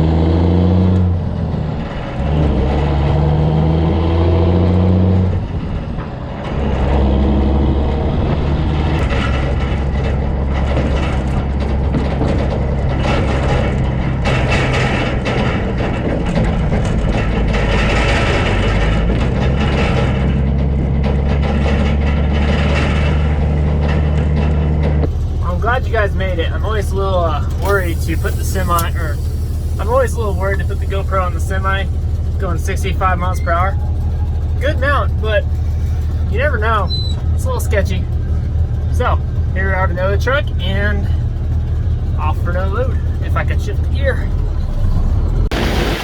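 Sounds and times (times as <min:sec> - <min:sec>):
road noise: 0:00.0 - 0:46.0
truck engine driving: 0:00.0 - 0:46.0.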